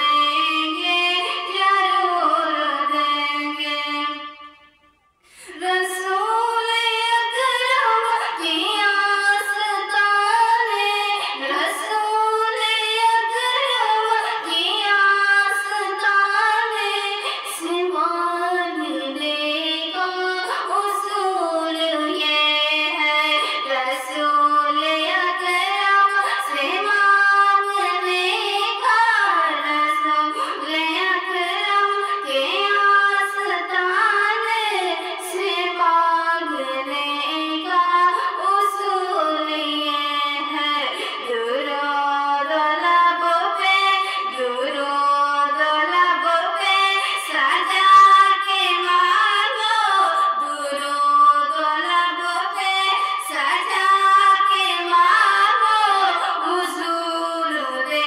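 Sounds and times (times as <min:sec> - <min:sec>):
woman singing: 0:00.0 - 0:04.6, 0:05.3 - 0:58.0.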